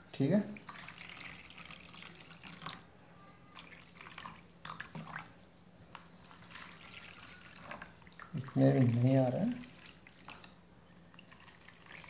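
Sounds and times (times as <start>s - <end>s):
water trickling and splashing: 0.6s - 2.9s, 3.6s - 5.3s, 6.2s - 12.0s.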